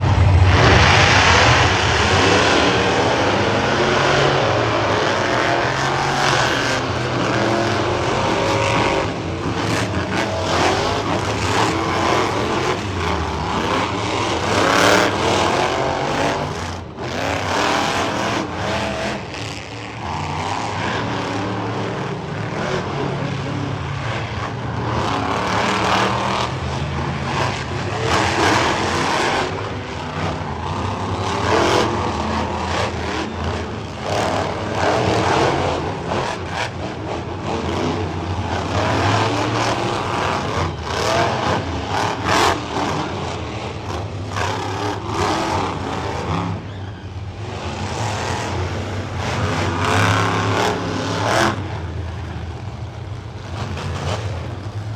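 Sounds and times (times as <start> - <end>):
monster truck engines revving: 0.0 - 54.9.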